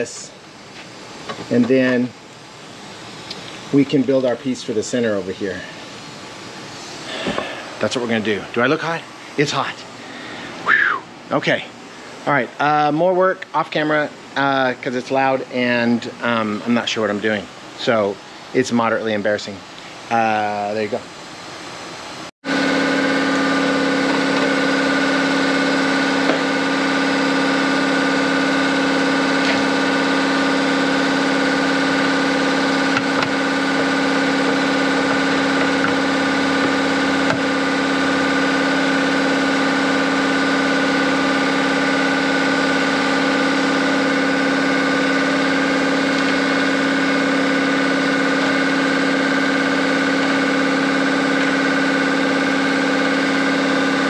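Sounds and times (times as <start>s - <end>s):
steady machine drone: 0.0s - 19.3s, 20.0s - 54.0s.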